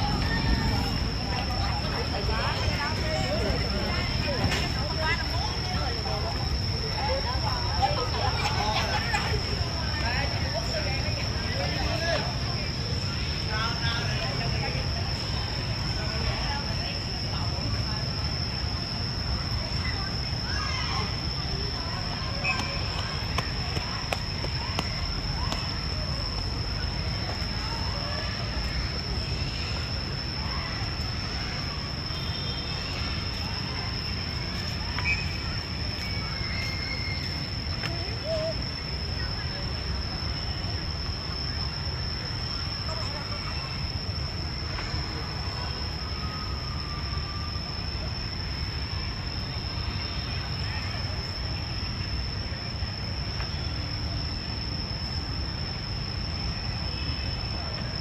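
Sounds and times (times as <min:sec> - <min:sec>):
faint distant voices: 0:00.0 - 0:58.0
high-pitched insect drone: 0:00.0 - 0:58.0
low rumble of traffic: 0:00.0 - 0:58.0.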